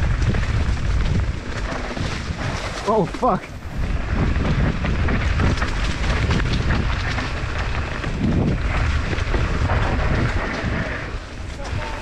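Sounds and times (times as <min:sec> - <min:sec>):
bike rattling over bumps: 0:00.0 - 0:12.0
wind rumbling on microphone: 0:00.0 - 0:12.0.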